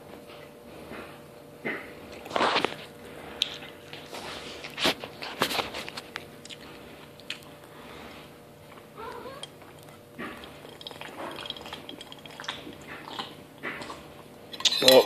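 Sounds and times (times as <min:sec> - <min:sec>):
chewing cereal: 0:02.0 - 0:07.9, 0:08.6 - 0:15.0.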